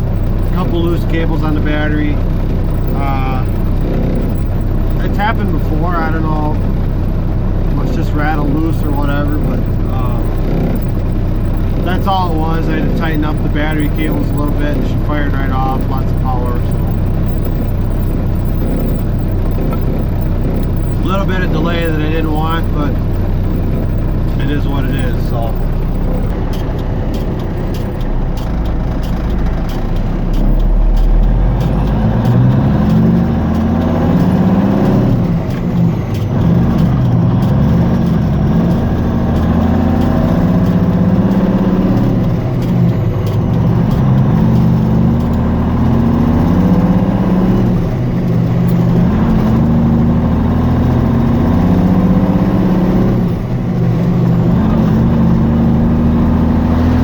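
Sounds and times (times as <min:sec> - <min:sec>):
truck diesel engine shifting gears: 0:00.0 - 0:57.0.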